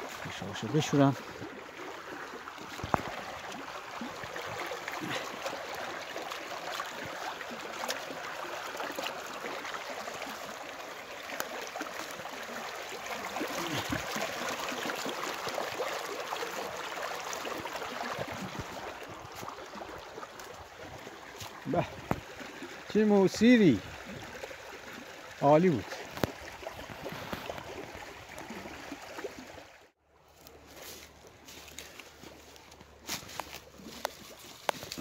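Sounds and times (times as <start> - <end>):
stream running over stones: 0.0 - 35.0.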